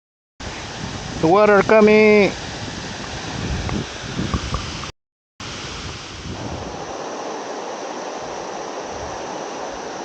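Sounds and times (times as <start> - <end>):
river and waterfall rushing: 0.4 - 10.0
wind buffeting microphone: 0.4 - 10.0.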